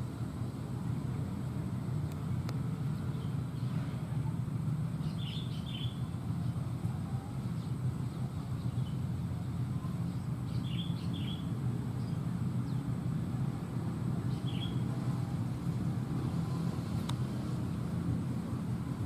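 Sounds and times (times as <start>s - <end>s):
low motor rumble: 0.0s - 19.0s.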